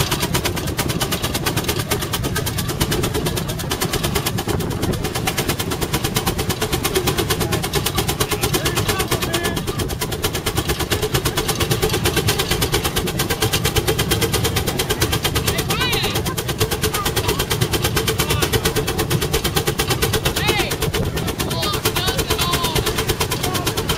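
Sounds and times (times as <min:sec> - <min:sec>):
steam engine exhaust chuffing: 0:00.0 - 0:23.9.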